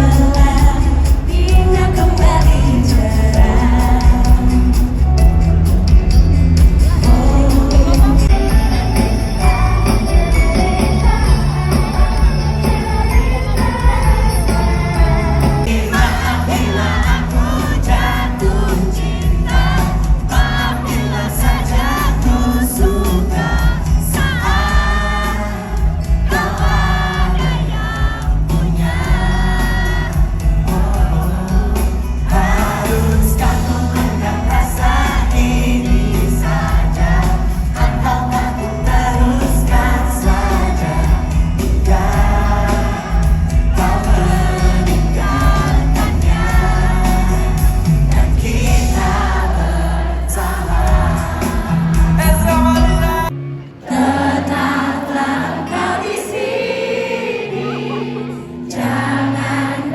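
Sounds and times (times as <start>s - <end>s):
pop song with singing: 0.0s - 59.9s.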